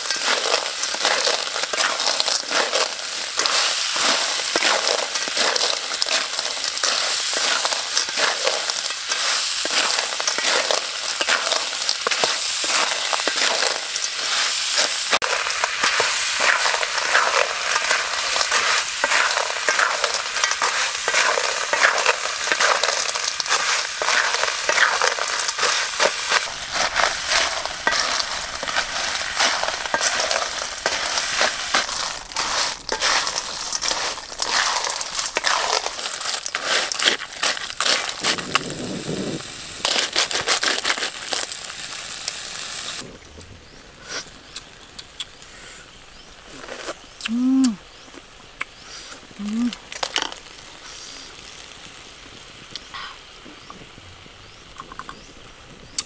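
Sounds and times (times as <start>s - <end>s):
clams sizzling in a wok: 0.0s - 56.0s.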